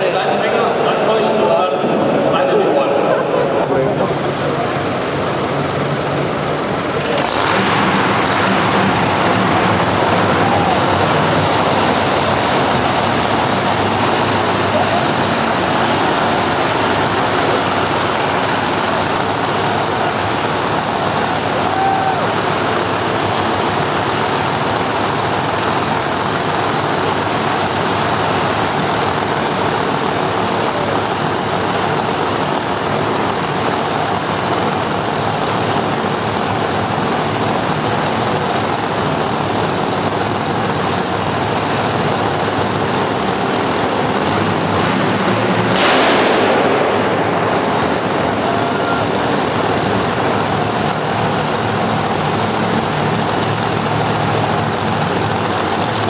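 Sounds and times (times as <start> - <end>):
dragster engine idling loudly: 0.0 - 56.0.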